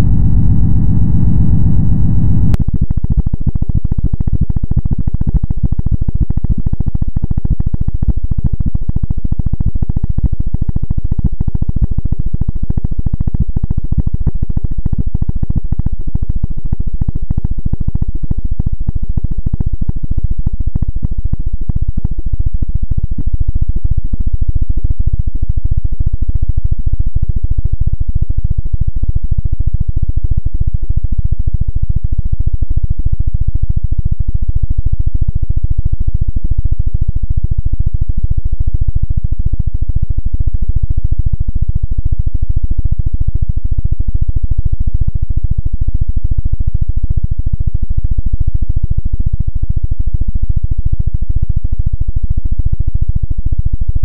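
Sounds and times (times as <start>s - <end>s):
distorted noise music rumble: 0.0s - 45.0s.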